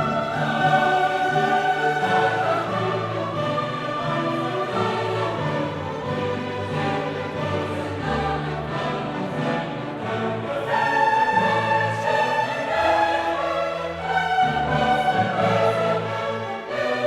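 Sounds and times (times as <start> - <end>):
choir singing slow chords: 0.0 - 17.0
orchestra: 0.0 - 17.0.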